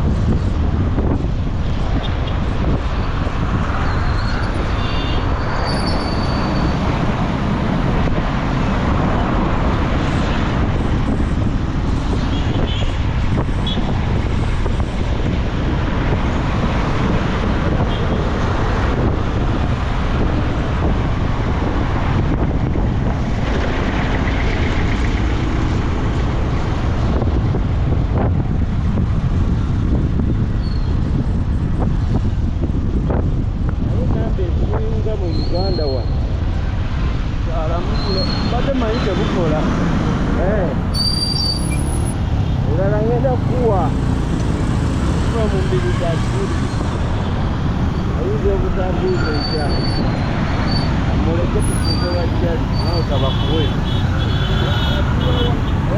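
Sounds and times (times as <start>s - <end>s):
city traffic: 0.0s - 55.9s.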